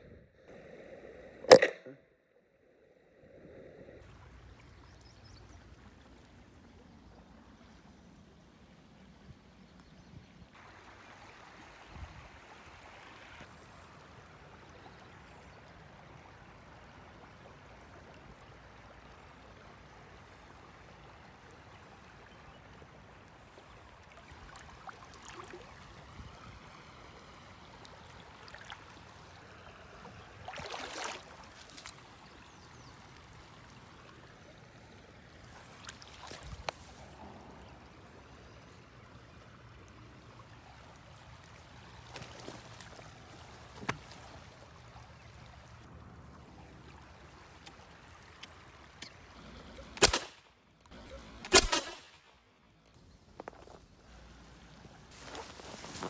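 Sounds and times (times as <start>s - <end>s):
creek water trickling: 0.0s - 56.0s.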